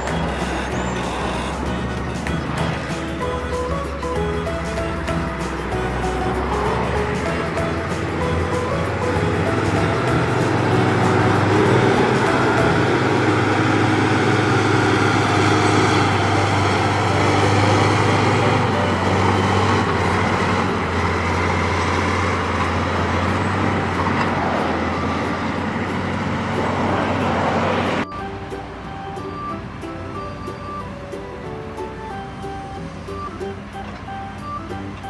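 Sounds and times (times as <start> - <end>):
music with held notes: 0.0 - 35.0
vehicle engine running: 0.0 - 35.0.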